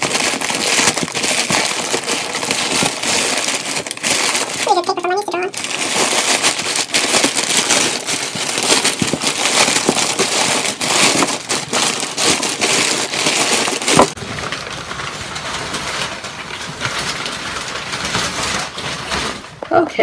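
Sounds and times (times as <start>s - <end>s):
packing paper rustling: 0.0s - 19.9s.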